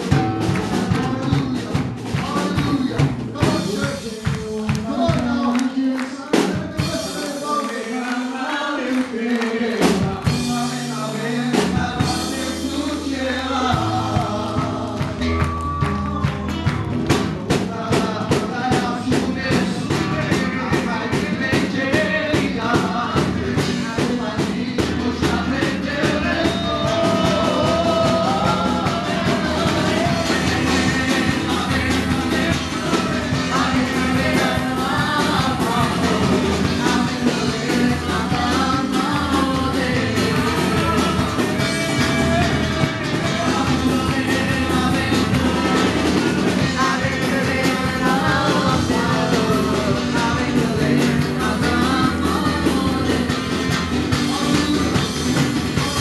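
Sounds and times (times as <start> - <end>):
drums playing a fast beat: 0.0 - 56.0
guitars: 0.0 - 56.0
voices singing into microphones: 0.0 - 56.0.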